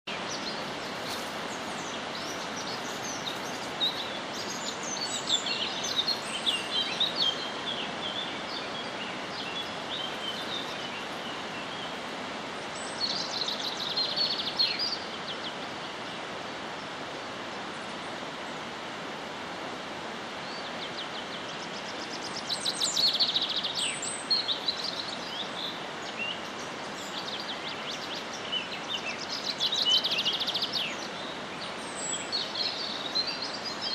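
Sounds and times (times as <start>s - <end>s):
birds chirping and trilling: 0.1s - 18.2s, 20.4s - 33.9s
steady background hiss: 0.1s - 33.9s.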